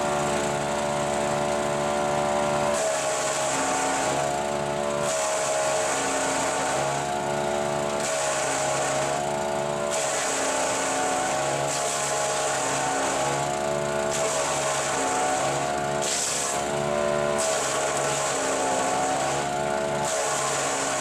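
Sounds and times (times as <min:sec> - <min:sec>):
wood chipper engine drone: 0:00.0 - 0:21.0.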